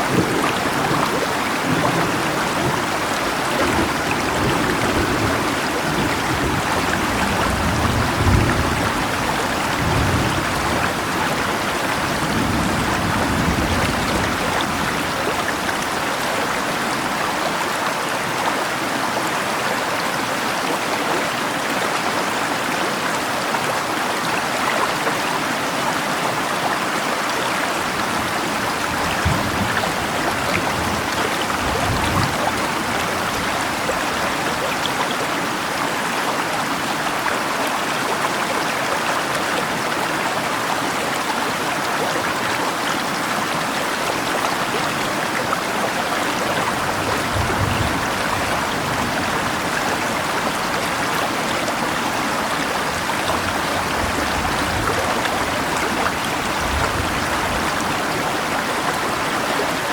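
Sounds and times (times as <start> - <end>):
rain falling: 0.0 - 59.9
river water rushing: 0.0 - 59.9.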